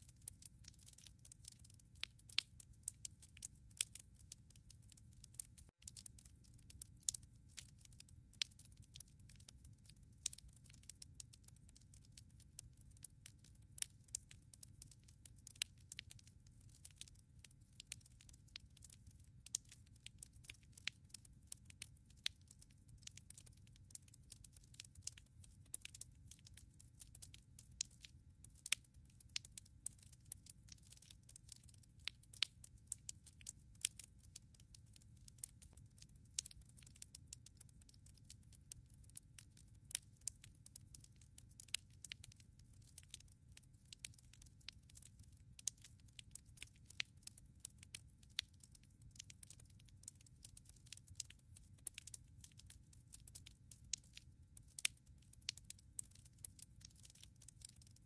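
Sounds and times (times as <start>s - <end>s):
firewood crackling and popping: 0.1s - 54.0s, 54.7s - 57.9s.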